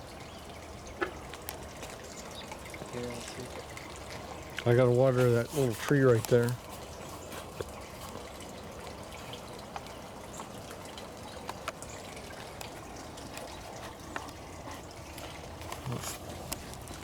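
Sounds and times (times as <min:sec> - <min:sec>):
water pouring onto ground: 0:00.0 - 0:17.0.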